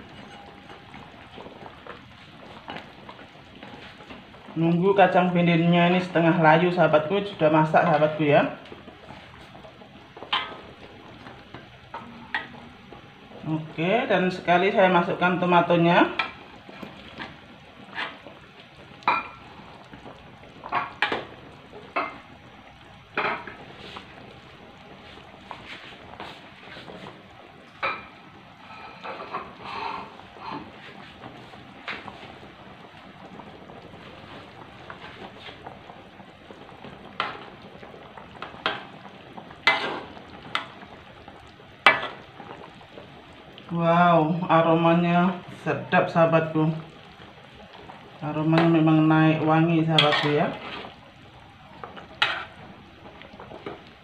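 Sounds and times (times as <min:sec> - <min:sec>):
broth bubbling: 0:00.0 - 0:54.0.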